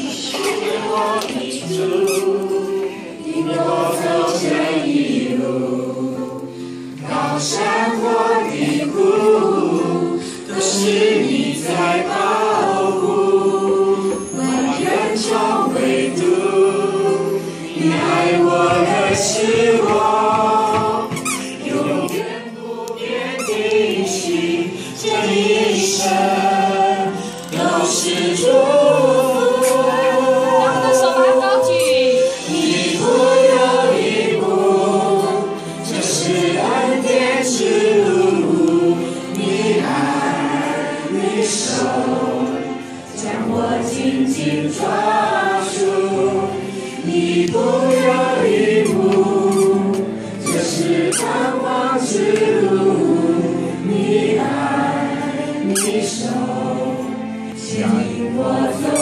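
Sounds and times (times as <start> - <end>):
women singing into microphones: 0.0 - 57.0
instrumental backing music: 0.0 - 59.0.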